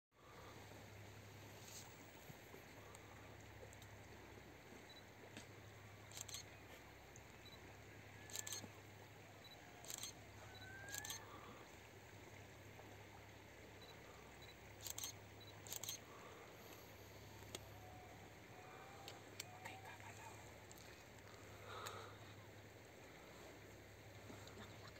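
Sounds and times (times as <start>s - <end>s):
low steady hum: 0.2s - 24.9s.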